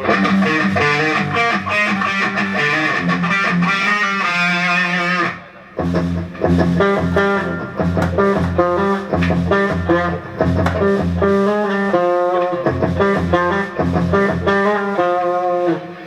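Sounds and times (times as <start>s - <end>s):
electric guitar riff: 0.0s - 16.0s.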